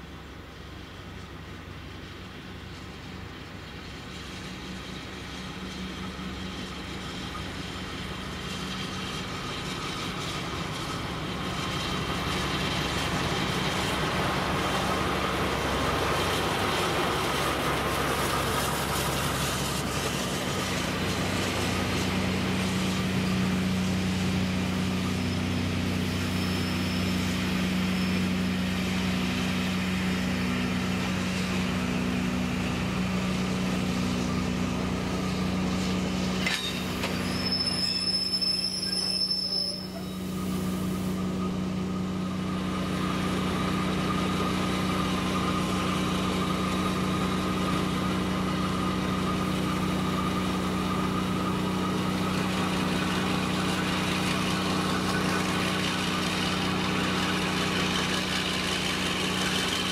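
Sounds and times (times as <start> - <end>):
coach wheels rumbling on rails: 0.0 - 59.9
diesel locomotive engine running: 0.0 - 59.9.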